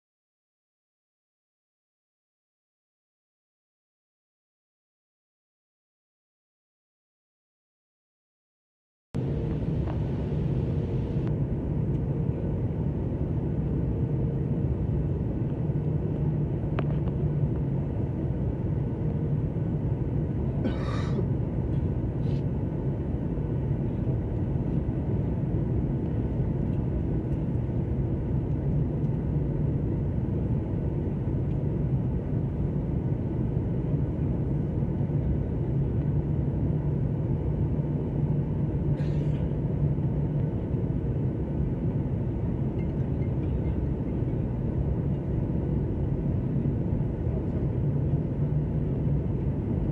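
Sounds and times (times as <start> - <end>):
airliner cabin engine rumble: 9.2 - 49.9
constant hum: 9.2 - 49.9.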